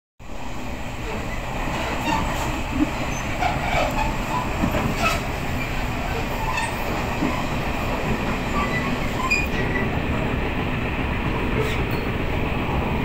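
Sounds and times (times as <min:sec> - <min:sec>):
train wheels rumbling on track: 0:00.2 - 0:13.0
train clicks and squeaks: 0:00.9 - 0:10.3, 0:11.3 - 0:12.4.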